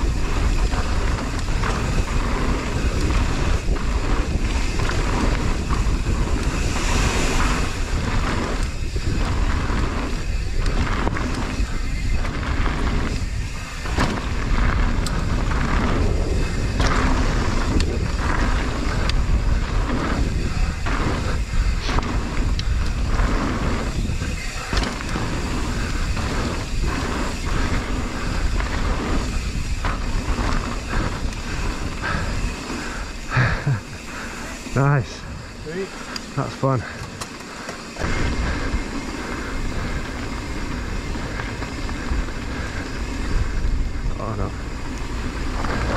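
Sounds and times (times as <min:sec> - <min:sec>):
bike knocks and rattles: 0:00.0 - 0:45.9
tyres rolling over dirt: 0:00.0 - 0:45.9
wind buffeting microphone: 0:00.0 - 0:45.9.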